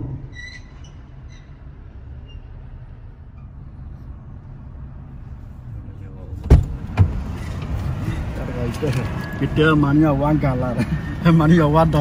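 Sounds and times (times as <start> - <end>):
road rumble inside vehicle cabin: 0.0 - 12.0.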